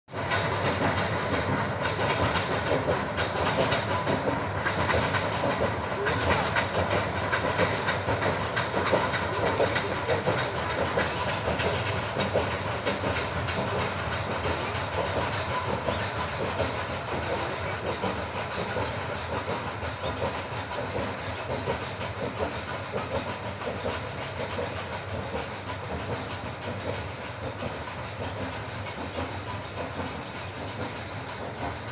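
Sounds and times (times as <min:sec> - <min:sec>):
steam locomotive hissing: 0:00.1 - 0:31.9.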